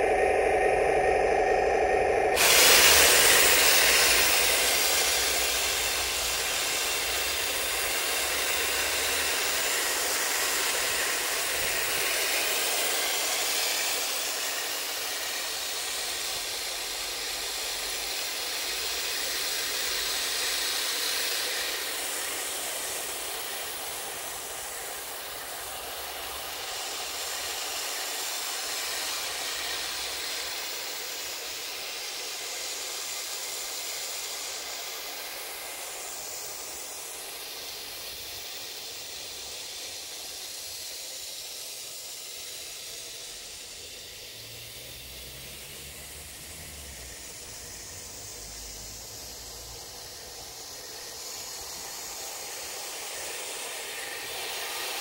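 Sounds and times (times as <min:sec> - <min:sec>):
model tank whirring: 0:00.0 - 0:55.0.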